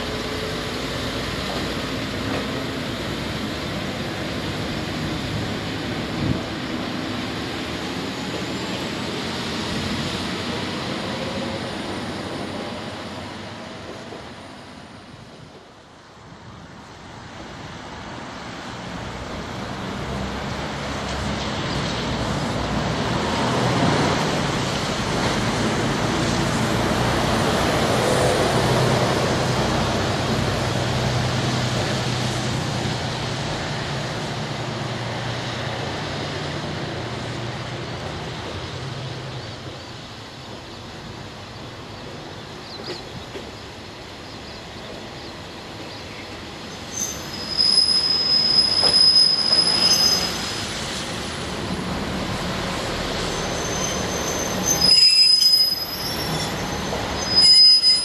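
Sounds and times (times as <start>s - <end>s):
approaching train rumble: 0.0s - 58.0s
railcar pulling away: 0.0s - 58.0s.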